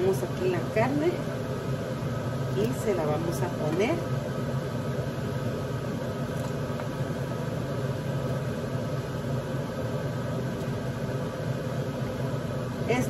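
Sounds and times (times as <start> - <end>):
motor hum and whir: 0.0 - 13.0.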